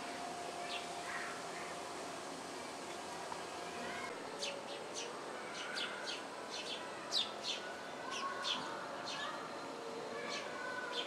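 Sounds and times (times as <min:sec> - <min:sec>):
faint background noise: 0:00.0 - 0:11.0
songbirds chirping: 0:00.1 - 0:11.0.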